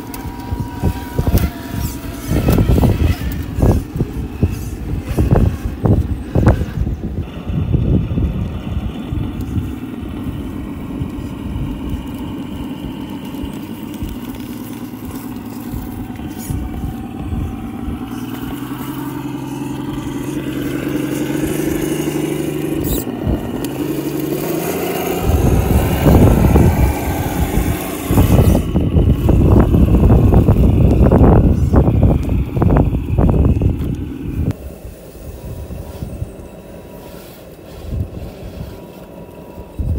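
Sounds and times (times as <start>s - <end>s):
electric drivetrain whining: 0.0s - 39.9s
wind buffeting microphone: 0.0s - 39.9s.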